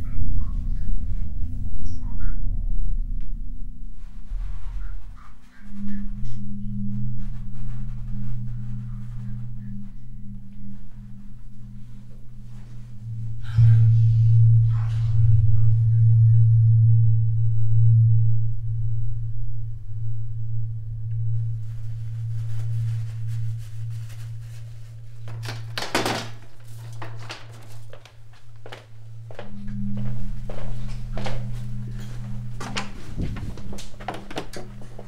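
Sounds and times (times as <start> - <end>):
low droning film score tone: 0.0 - 35.0.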